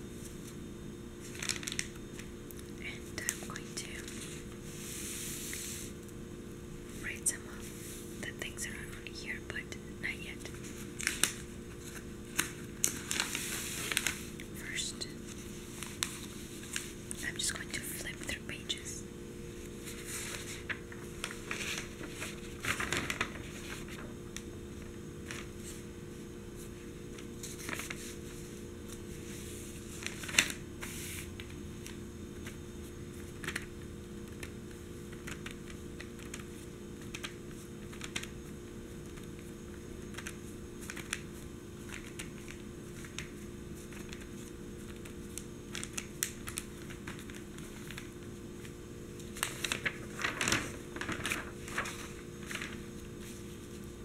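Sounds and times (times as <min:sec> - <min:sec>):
steady low hum: 0:00.0 - 0:54.0
paper rustling: 0:01.2 - 0:02.4, 0:03.2 - 0:06.0, 0:10.4 - 0:18.3, 0:19.5 - 0:25.9, 0:26.5 - 0:54.0.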